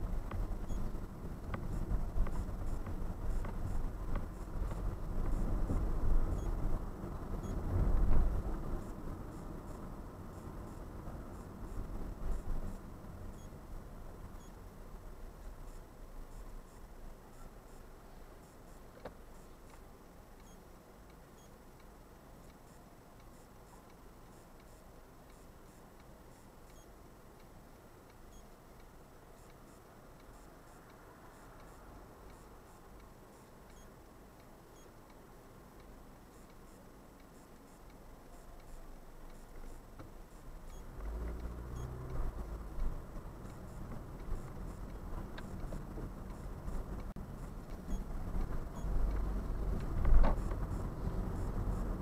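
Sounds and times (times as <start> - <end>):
car engine and road noise: 0.0 - 52.0
turn indicator ticking: 0.1 - 13.6, 14.2 - 52.0.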